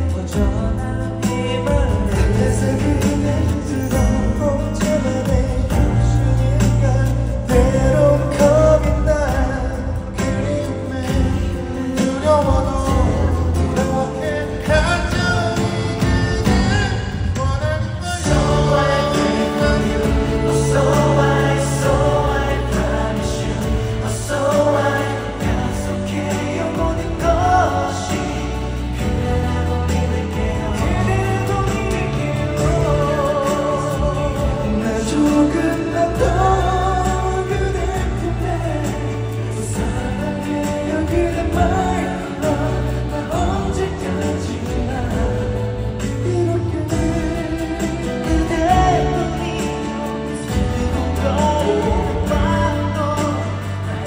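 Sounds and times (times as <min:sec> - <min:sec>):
band accompaniment: 0:00.0 - 0:54.0
choir-like voices singing: 0:00.0 - 0:54.0
sustained bass notes: 0:00.0 - 0:54.0.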